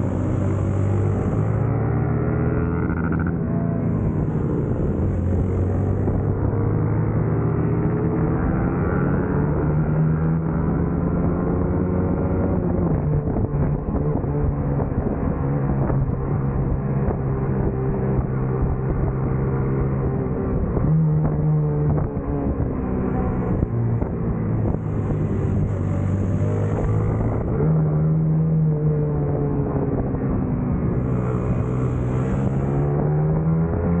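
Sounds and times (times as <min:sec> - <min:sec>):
racing motorcycle engine: 0:00.0 - 0:34.0.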